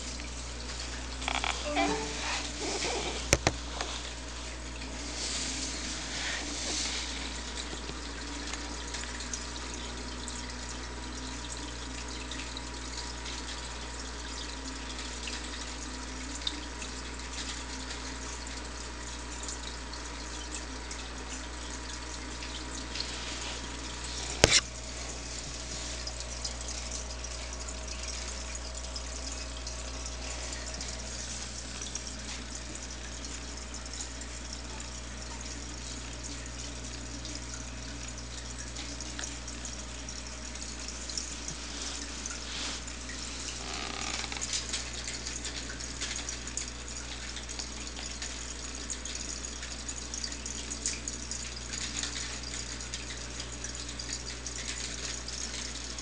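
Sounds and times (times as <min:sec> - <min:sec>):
aquarium water trickling: 0:00.0 - 0:56.0.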